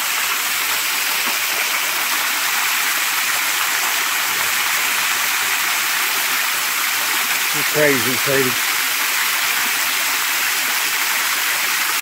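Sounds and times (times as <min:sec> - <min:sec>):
small waterfall pouring onto rocks: 0:00.0 - 0:12.0.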